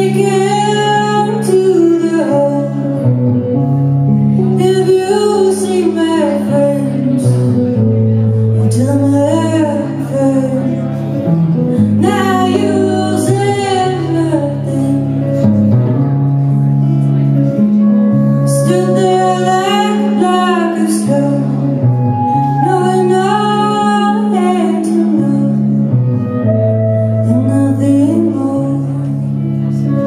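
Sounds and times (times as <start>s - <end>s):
woman singing: 0.0s - 3.1s, 4.4s - 7.7s, 8.6s - 11.0s, 11.8s - 15.4s, 18.5s - 30.0s
electric guitar: 0.0s - 30.0s
keyboard chords: 0.0s - 30.0s.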